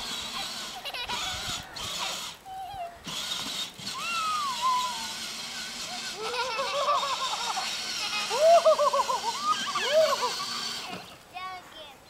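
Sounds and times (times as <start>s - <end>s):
toy car electric motor hum: 0.0s - 11.4s
child squealing and vocalizing: 0.1s - 3.1s, 3.9s - 10.8s.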